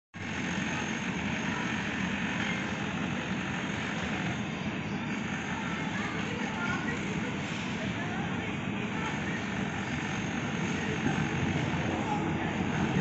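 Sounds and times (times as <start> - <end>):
electric train running on track: 0.2 - 13.0.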